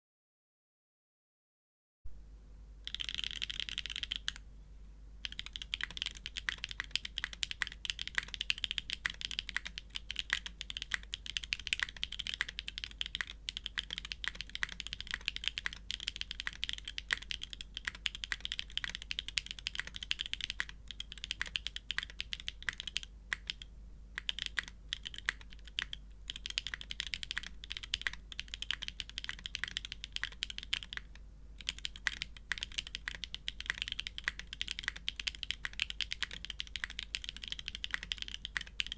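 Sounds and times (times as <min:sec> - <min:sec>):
typing on mechanical keyboard: 0:02.8 - 0:04.4, 0:05.2 - 0:38.9.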